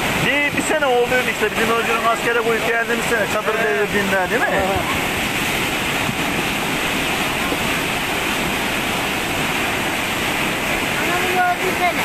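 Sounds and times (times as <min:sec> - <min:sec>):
floodwater rushing down channel: 0:00.0 - 0:12.0.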